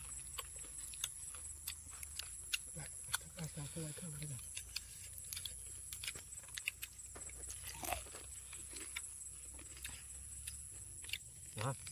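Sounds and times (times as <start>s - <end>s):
chewing and crunching: 0.0s - 11.9s.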